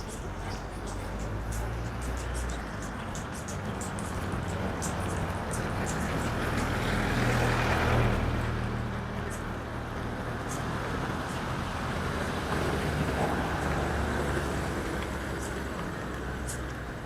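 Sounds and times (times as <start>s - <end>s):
vehicle engine passing by: 0.0s - 17.0s.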